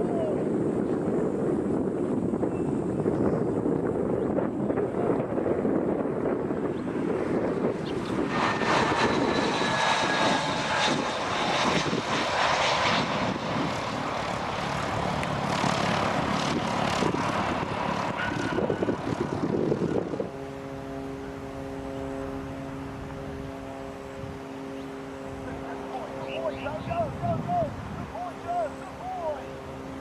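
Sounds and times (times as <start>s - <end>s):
aircraft engine passing: 0.0s - 30.0s
steady multi-tone hum: 0.0s - 30.0s.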